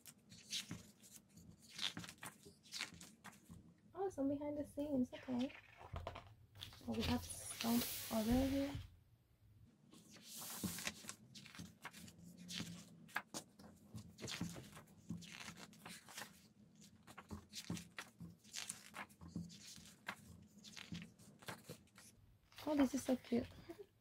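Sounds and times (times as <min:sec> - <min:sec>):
book pages turning: 0:00.0 - 0:03.6, 0:05.3 - 0:08.8, 0:10.0 - 0:22.9.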